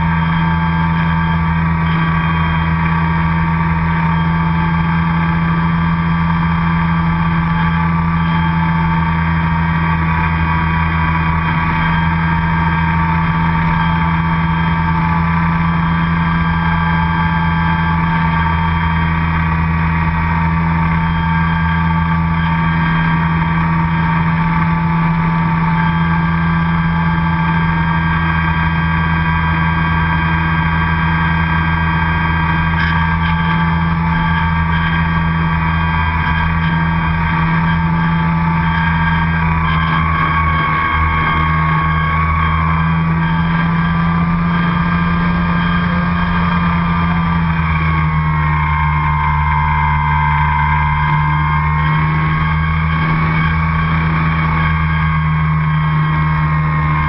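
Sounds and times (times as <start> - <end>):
high motor whine: 0.0 - 57.0
model airplane motor droning: 0.0 - 57.0.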